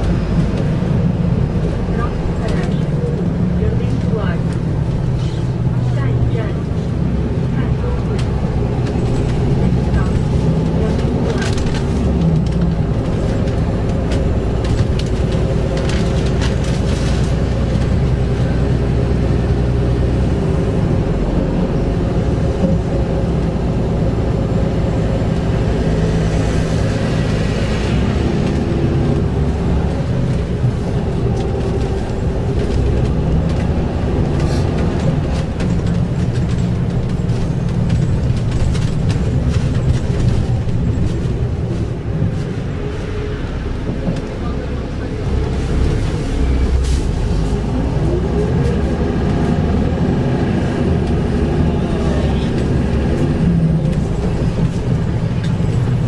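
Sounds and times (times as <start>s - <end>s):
bus engine drone: 0.0s - 56.0s
road noise: 0.0s - 56.0s.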